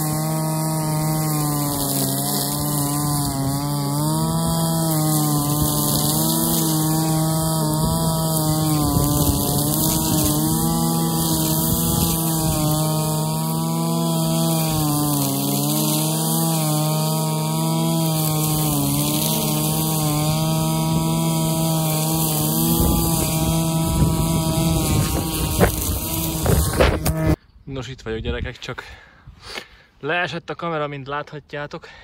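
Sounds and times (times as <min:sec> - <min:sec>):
brushcutter engine cutting grass: 0:00.0 - 0:27.4.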